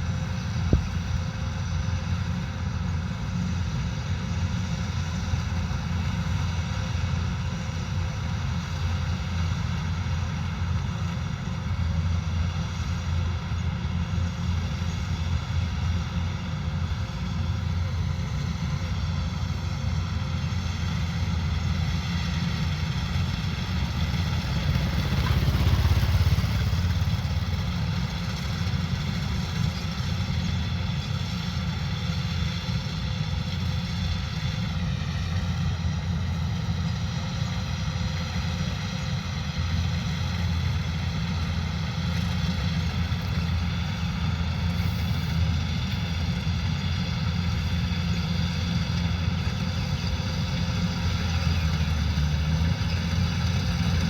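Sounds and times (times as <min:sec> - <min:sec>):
combine harvester diesel drone: 0:00.0 - 0:54.0
machinery whine: 0:09.9 - 0:54.0.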